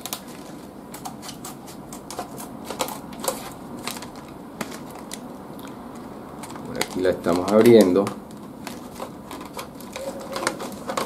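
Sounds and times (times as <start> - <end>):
paper packaging clicks and rustles: 0.0 - 11.0.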